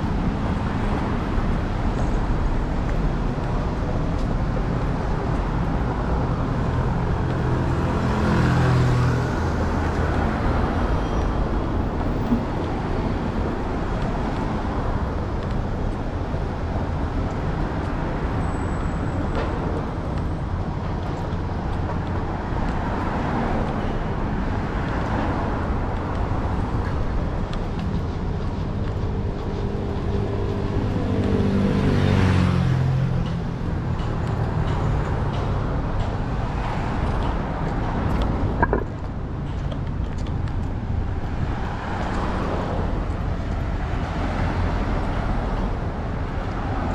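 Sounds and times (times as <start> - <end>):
road traffic: 0.0 - 46.9
vehicles passing close by: 0.0 - 46.9.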